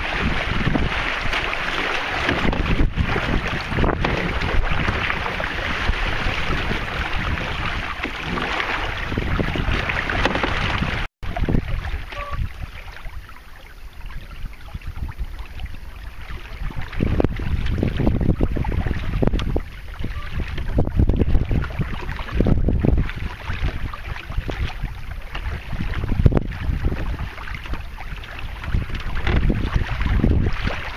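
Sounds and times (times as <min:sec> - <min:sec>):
water rushing along hull: 0:00.0 - 0:30.9
wind buffeting microphone: 0:00.0 - 0:30.9.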